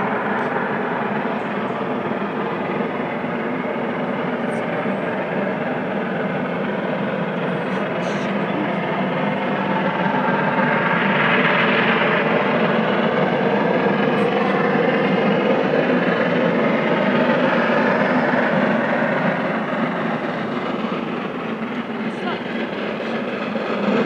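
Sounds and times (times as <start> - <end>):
steam locomotive working hard: 0.0 - 24.0.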